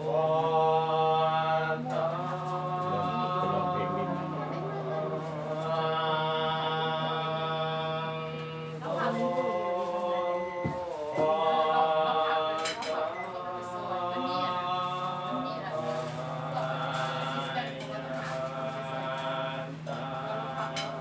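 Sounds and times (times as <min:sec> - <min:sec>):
voices chanting in unison: 0:00.0 - 0:21.0.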